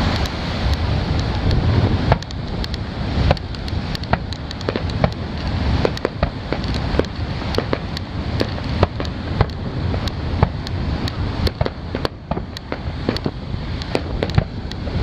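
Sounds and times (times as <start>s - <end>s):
fireworks crackling pops: 0.0s - 15.0s
steady low rumble: 0.0s - 15.0s.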